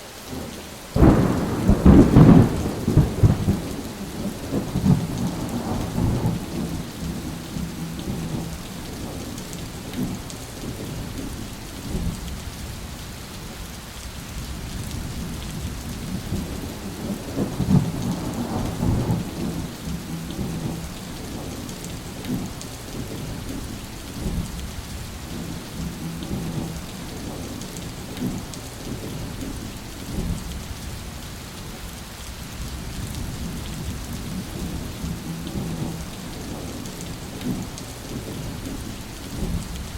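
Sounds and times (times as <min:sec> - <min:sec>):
heavy rain: 0:00.0 - 0:39.9
rolling thunder: 0:01.0 - 0:12.6, 0:14.3 - 0:30.9, 0:32.7 - 0:39.9.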